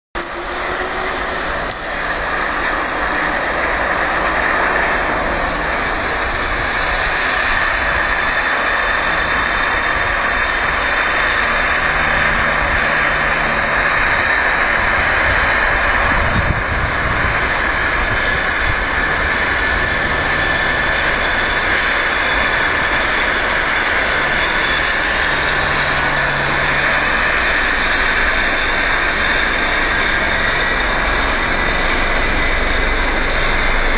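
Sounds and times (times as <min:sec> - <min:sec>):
helicopter turbine whine: 0:00.2 - 0:33.9.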